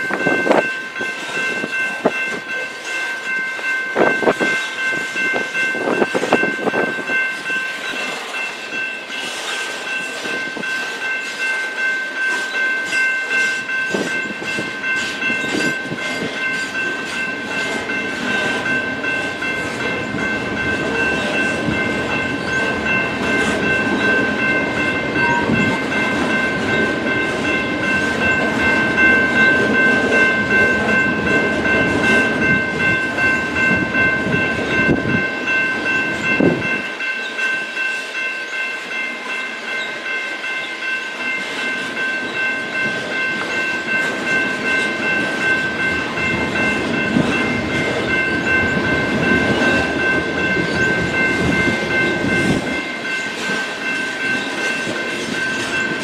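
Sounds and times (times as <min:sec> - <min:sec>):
freight train wheels rumbling: 0:00.0 - 0:56.0
high ringing tone: 0:00.0 - 0:56.0.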